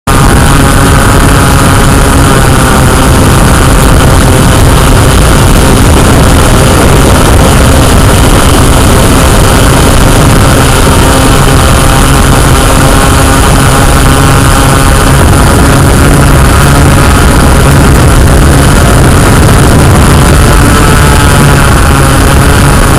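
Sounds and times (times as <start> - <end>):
drone propellers buzzing: 0.0 - 22.9.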